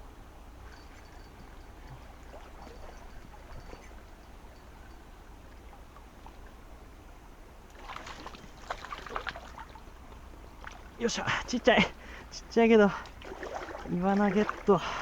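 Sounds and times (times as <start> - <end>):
stream water rushing: 0.3 - 15.0.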